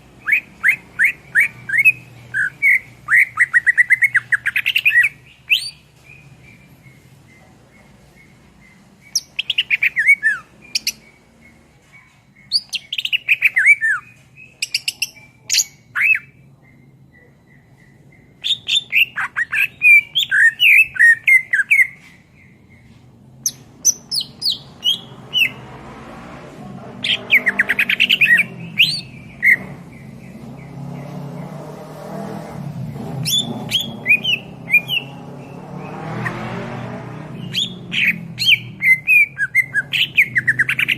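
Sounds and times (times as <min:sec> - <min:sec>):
bird chirping and whistling: 0:00.2 - 0:06.7, 0:09.0 - 0:11.2, 0:12.4 - 0:22.8, 0:23.4 - 0:25.6, 0:27.0 - 0:31.1, 0:33.0 - 0:40.9.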